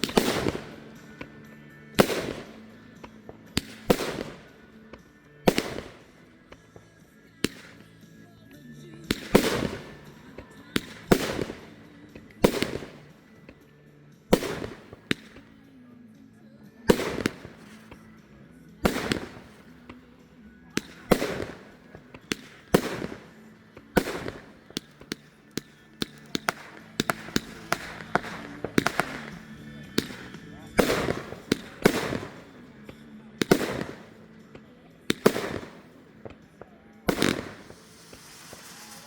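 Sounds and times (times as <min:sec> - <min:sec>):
firework cracks and pops: 0:00.0 - 0:01.4, 0:02.0 - 0:08.0, 0:09.0 - 0:13.6, 0:14.3 - 0:15.6, 0:16.9 - 0:18.2, 0:18.8 - 0:39.0
fireworks bangs with crackle: 0:00.0 - 0:08.0, 0:09.0 - 0:13.6, 0:14.3 - 0:15.6, 0:16.9 - 0:18.2, 0:18.8 - 0:32.7, 0:33.4 - 0:34.5, 0:35.1 - 0:36.4, 0:37.0 - 0:39.0.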